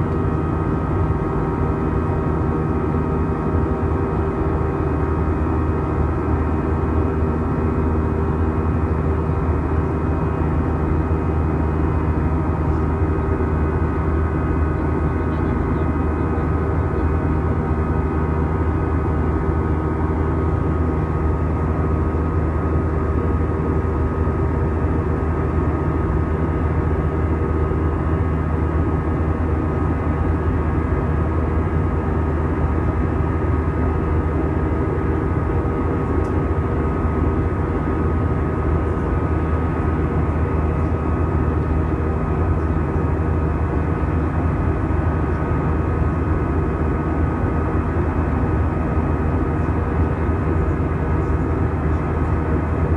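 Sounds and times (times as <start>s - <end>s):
jet engines humming: 0.0s - 52.9s.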